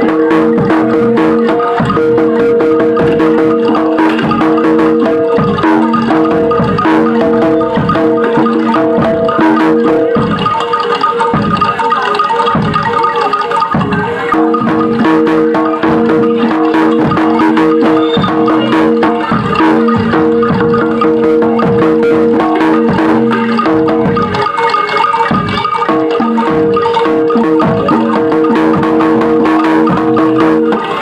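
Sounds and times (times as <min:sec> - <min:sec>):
fast dense drum strokes: 0:00.0 - 0:31.0
struck metal mallet instruments ringing: 0:00.0 - 0:31.0.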